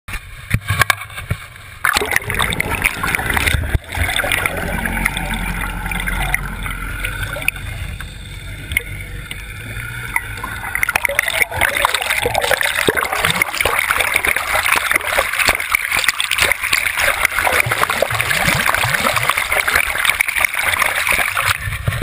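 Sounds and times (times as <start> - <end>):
water rushing and splashing: 0.2 - 22.0
steady low rumble: 1.4 - 22.0.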